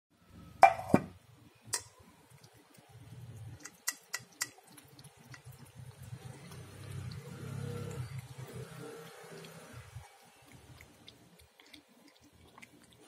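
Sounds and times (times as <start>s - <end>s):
cat eating: 2.0s - 13.0s.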